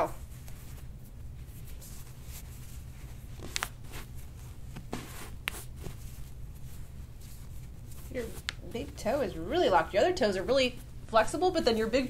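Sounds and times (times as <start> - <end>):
hands rustling on skin: 0.0 - 11.8
steady low hum: 0.0 - 12.0.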